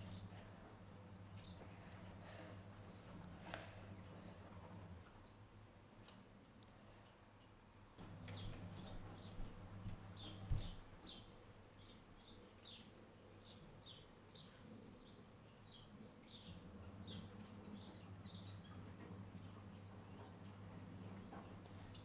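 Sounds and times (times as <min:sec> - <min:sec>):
small birds chirping: 0:00.0 - 0:05.4, 0:07.0 - 0:22.0.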